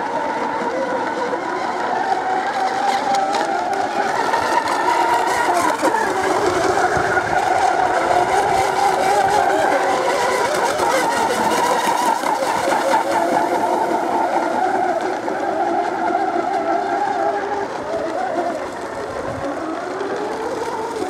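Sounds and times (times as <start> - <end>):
model boat engines racing: 0.0 - 21.0.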